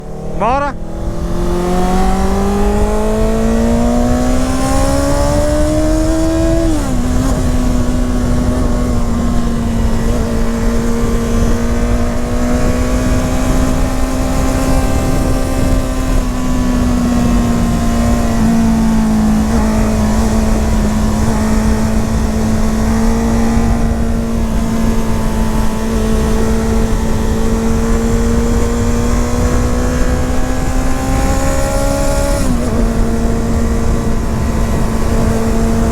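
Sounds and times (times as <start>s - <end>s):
low wind rush: 0.0s - 35.9s
motorcycle engine and exhaust: 0.0s - 35.9s.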